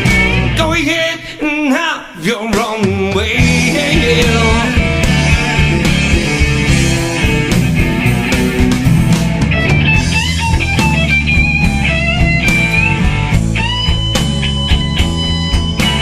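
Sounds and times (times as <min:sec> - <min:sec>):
electric guitar lead with bent notes: 0:00.0 - 0:00.8, 0:03.3 - 0:16.0
blues-rock band playing: 0:00.0 - 0:01.0, 0:02.6 - 0:16.0.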